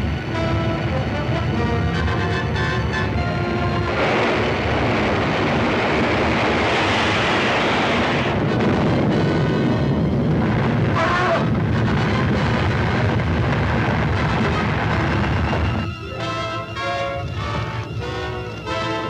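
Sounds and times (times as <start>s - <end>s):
volcanic eruption rumble: 0.0s - 16.0s
dramatic orchestral music: 0.0s - 19.0s.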